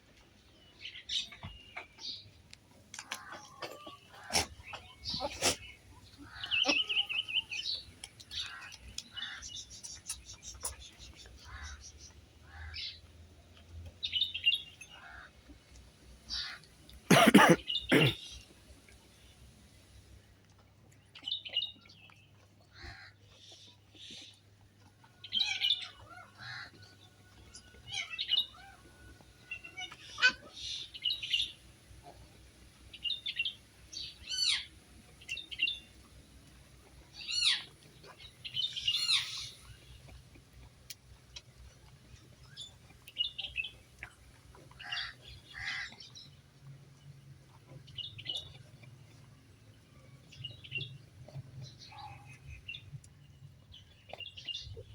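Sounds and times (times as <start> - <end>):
birds chirping: 0.0 - 20.3, 21.0 - 54.9.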